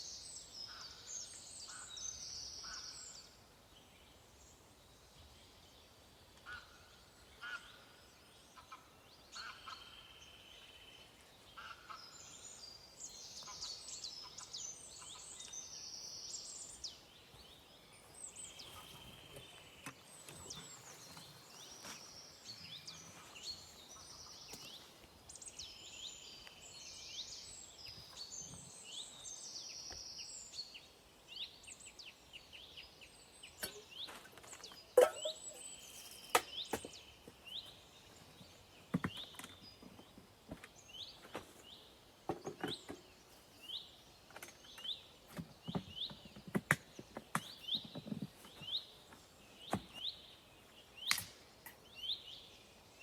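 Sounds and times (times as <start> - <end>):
birds singing: 0.0 - 53.0.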